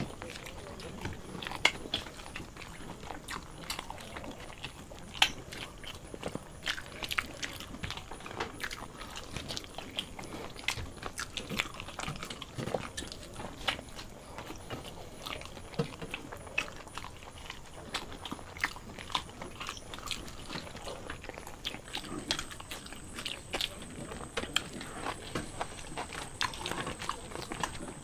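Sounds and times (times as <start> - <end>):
wet chewing mouth clicks: 0.0 - 28.0.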